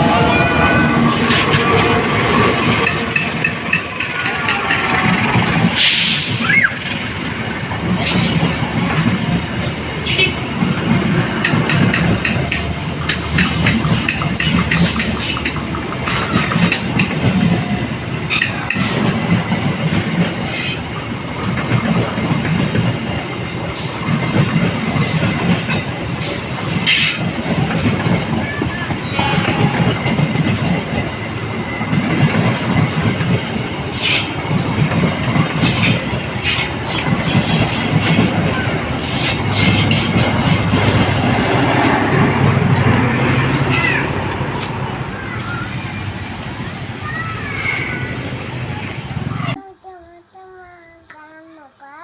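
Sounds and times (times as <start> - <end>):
train wheels clattering on rails: 0.0 - 46.0.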